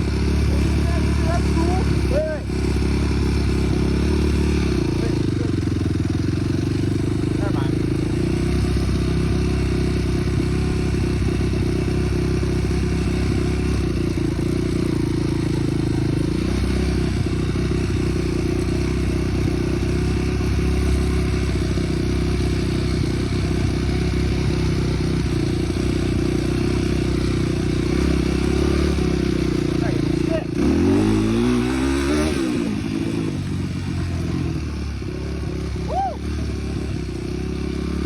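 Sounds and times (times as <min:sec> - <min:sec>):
small vehicle engine running: 0:00.0 - 0:38.0.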